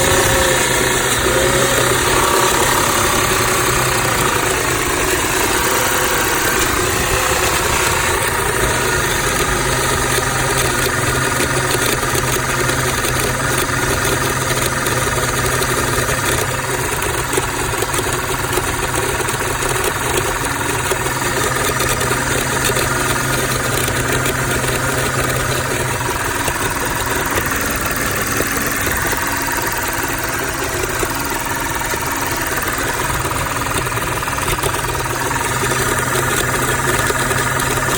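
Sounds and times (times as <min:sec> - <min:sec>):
car engine idling rough: 0:00.0 - 0:37.9.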